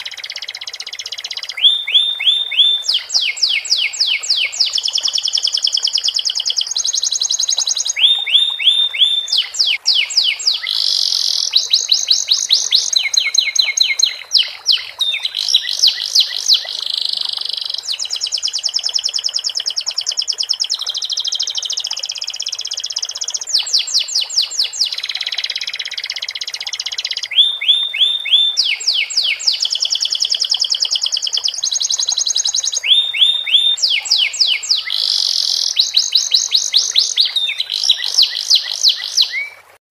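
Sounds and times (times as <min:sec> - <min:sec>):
canary singing trills: 0:00.0 - 0:39.8.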